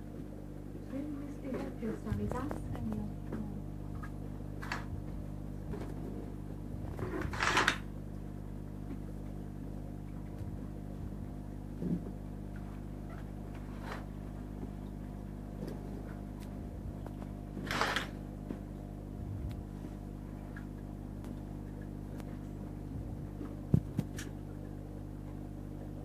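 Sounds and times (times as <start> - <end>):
aquarium pump hum: 0.0 - 26.0.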